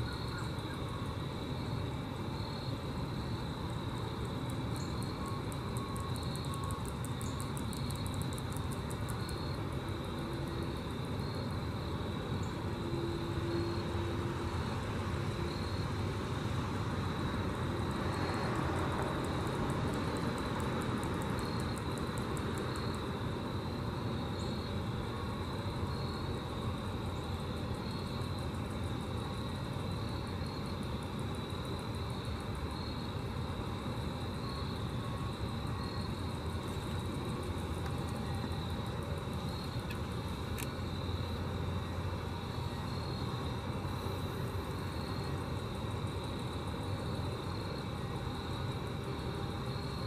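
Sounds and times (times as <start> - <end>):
grasshopper stridulating: 0.0 - 50.0
low rumble and hiss: 0.0 - 50.0.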